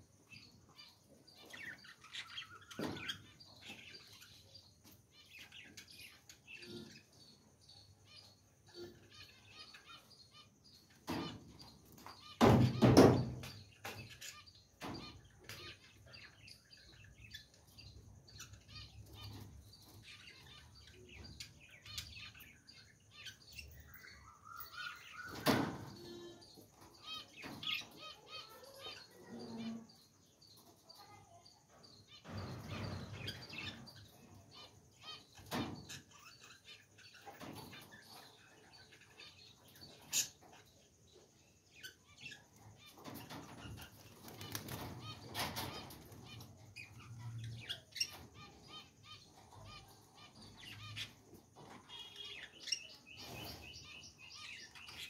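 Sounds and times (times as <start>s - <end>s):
budgerigars chirping and warbling: 0.2s - 55.0s.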